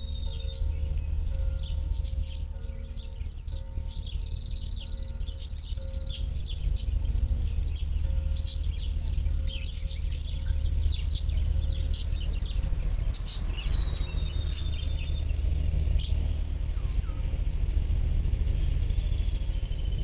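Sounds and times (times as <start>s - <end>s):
birds chirping and singing: 0.0s - 20.0s
steady low rumble: 0.0s - 20.0s.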